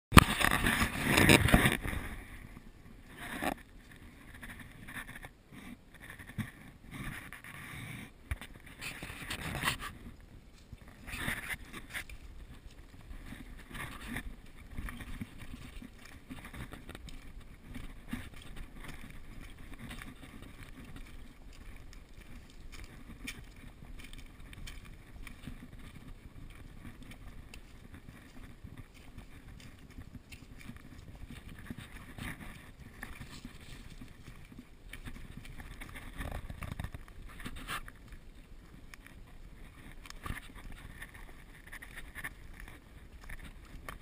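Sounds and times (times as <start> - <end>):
footsteps on dry leaves and twigs: 0.1 - 44.0
low rumble of wind: 0.1 - 44.0.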